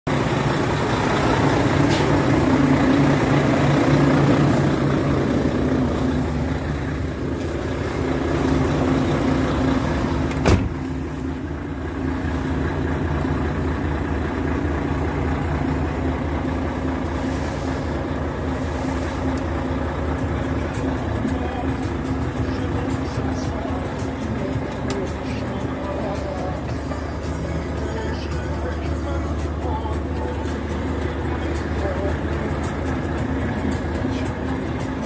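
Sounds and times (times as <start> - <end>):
diesel truck engine running: 0.0 - 35.0.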